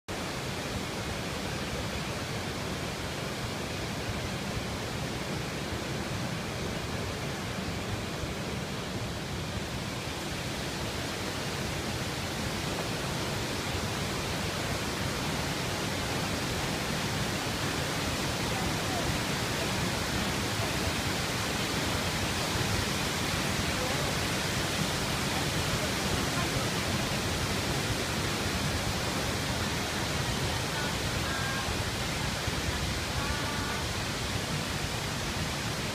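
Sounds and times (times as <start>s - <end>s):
waterfall rushing: 0.1s - 35.9s.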